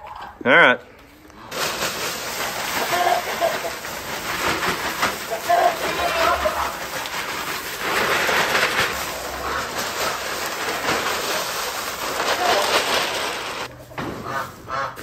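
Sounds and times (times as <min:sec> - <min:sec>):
plastic bag rustling: 0:01.5 - 0:13.7
wood shavings pouring: 0:01.5 - 0:13.7.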